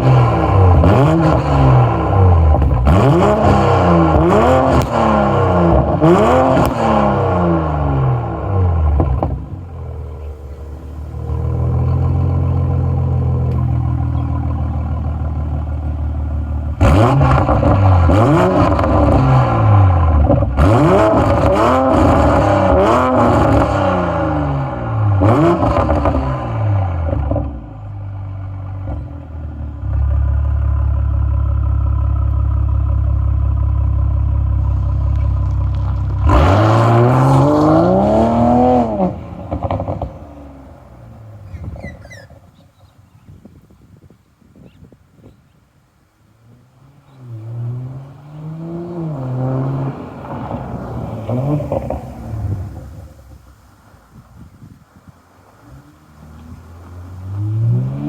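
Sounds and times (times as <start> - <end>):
car engine idling and revving: 0.0 - 43.3, 45.8 - 58.0.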